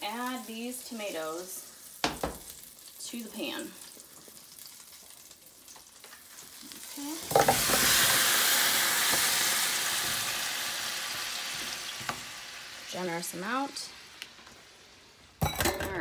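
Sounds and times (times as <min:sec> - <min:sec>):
tomatoes sizzling in butter: 0:00.0 - 0:15.5.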